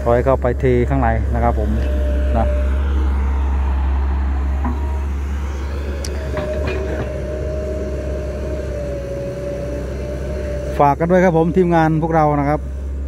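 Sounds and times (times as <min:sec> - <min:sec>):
excavator diesel engine rumbling: 0:00.0 - 0:13.0
steady whine: 0:00.0 - 0:13.0.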